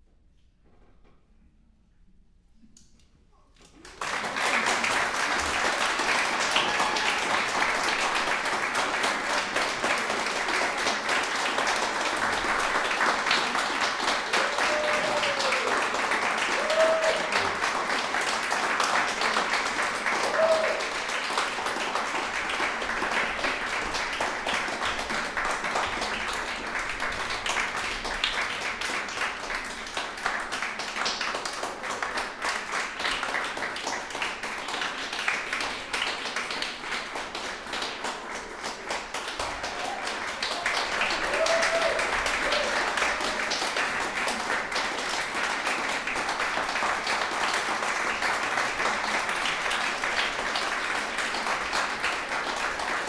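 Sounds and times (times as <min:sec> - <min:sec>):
audience applauding: 0:03.7 - 0:53.0.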